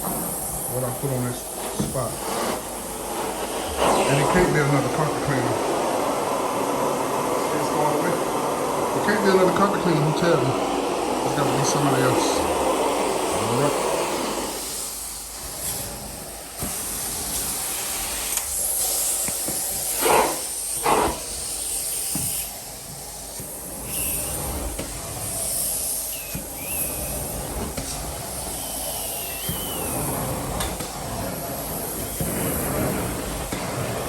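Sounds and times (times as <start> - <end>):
carpet cleaner hissing: 0.0 - 34.0
loud spray bursts: 0.0 - 34.0.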